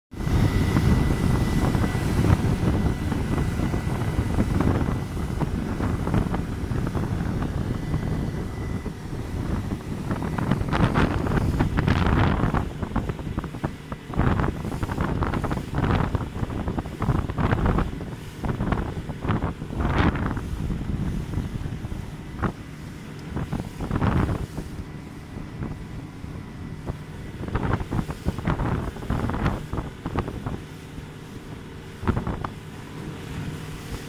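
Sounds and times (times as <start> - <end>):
outboard motor running: 0.1 - 34.0
thin steady whine: 0.1 - 34.0
wind buffeting microphone: 0.1 - 34.0.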